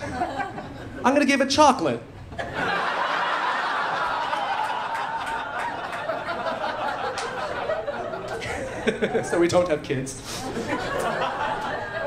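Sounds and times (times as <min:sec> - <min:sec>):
audience laughing: 0:00.0 - 0:01.0, 0:02.3 - 0:09.6, 0:10.2 - 0:12.0.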